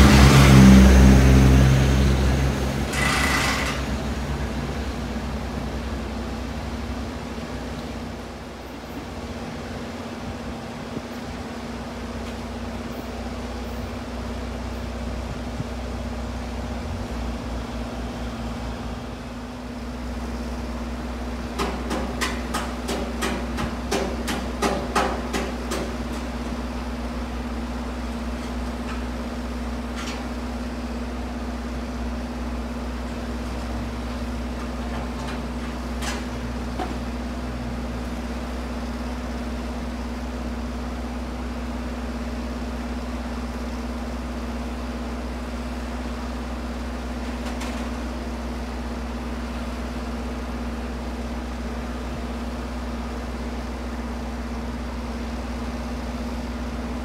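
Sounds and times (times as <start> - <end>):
idling train engine hum: 0.0 - 57.0.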